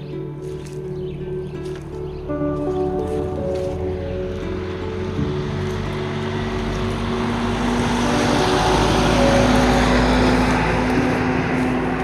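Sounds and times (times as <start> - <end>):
road vehicle passing: 0.0 - 12.0.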